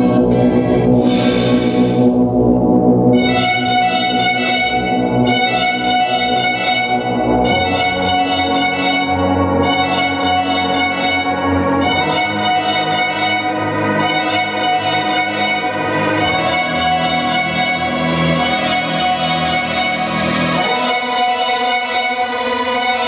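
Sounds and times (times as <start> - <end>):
string orchestra chords: 0.0 - 23.0.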